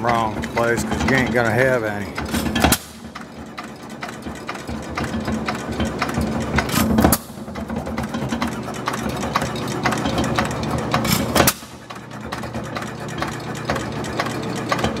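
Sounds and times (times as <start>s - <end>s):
hit-and-miss engine clattering: 0.0s - 15.0s.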